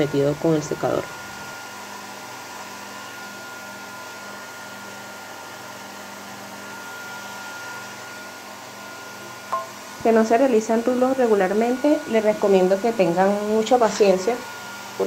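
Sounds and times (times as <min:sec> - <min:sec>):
hair dryer blowing: 0:00.0 - 0:15.0.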